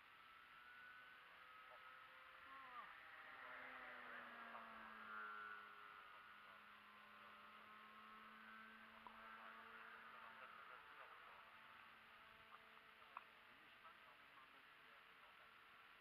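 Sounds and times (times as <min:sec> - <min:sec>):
model plane motor whine: 0:00.0 - 0:16.0.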